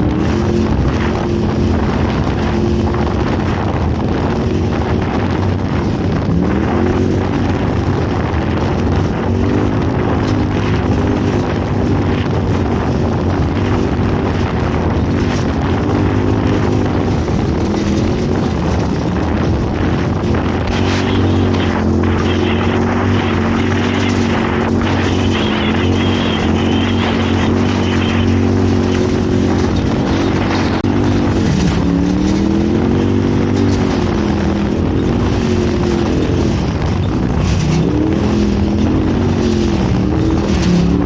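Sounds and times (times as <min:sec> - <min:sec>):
race vehicle engine revving: 0:00.0 - 0:41.0
vehicle over rough ground: 0:00.0 - 0:41.0
wind noise on microphone: 0:00.0 - 0:41.0.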